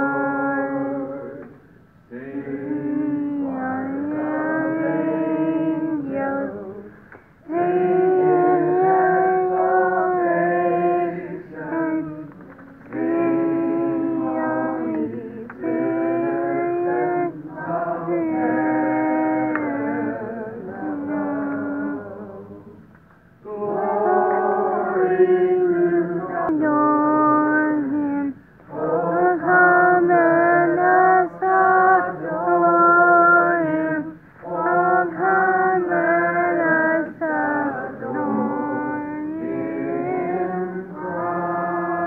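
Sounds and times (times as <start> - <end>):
voices singing a carol: 0.0 - 42.0.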